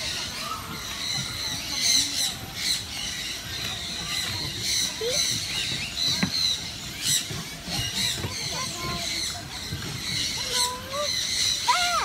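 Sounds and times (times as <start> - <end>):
birds chirping: 0.0 - 12.0
outdoor background noise: 0.0 - 12.0.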